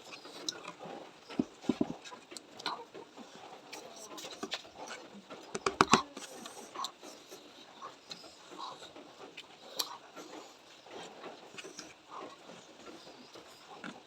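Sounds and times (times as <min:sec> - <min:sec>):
chewing and crunching: 0:00.0 - 0:14.0.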